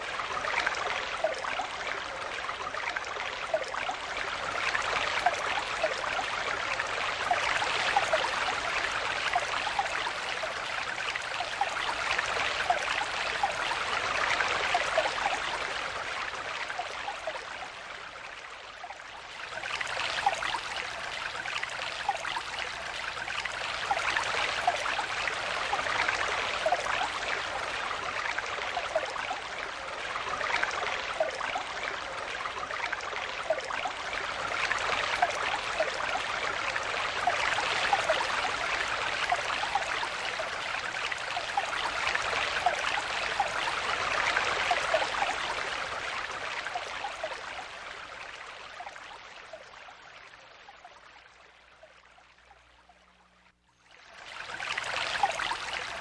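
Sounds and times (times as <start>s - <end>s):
small water splashes: 0.0s - 56.0s
stream water flowing: 0.0s - 56.0s.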